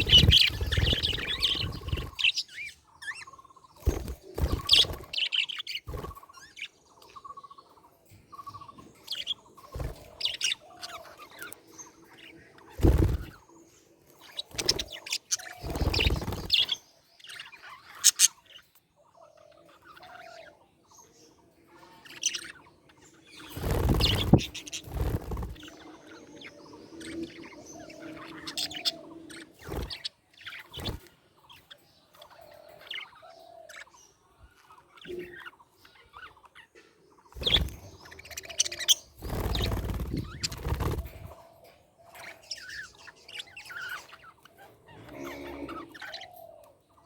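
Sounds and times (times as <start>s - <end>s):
budgerigars chirping: 0.0s - 47.0s.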